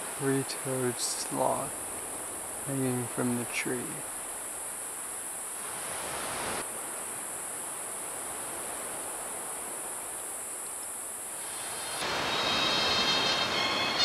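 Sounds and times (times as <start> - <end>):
insects droning: 0.0 - 14.0
soft background hiss: 0.0 - 14.0.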